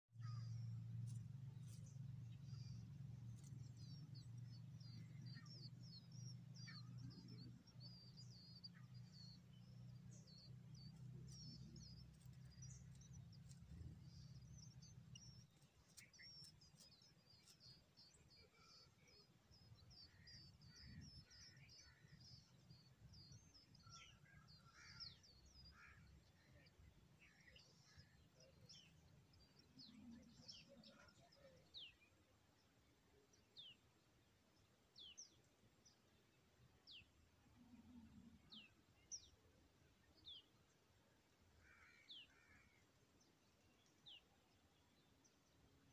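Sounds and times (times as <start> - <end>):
low steady hum: 0.2 - 45.9.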